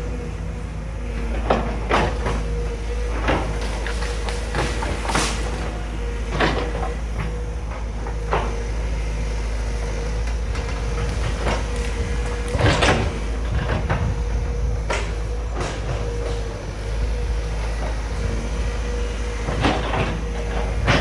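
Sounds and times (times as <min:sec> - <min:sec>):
excavator diesel engine running: 0:00.0 - 0:21.0
hydraulic whine: 0:00.0 - 0:21.0.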